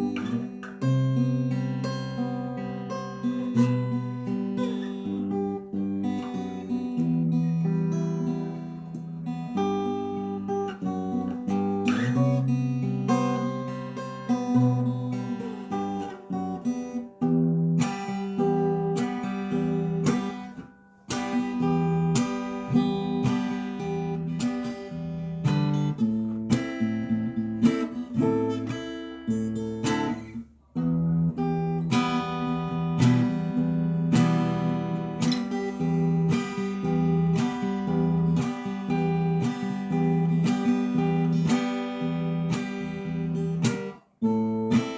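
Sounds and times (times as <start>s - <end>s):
fingerstyle acoustic guitar: 0.0s - 44.9s.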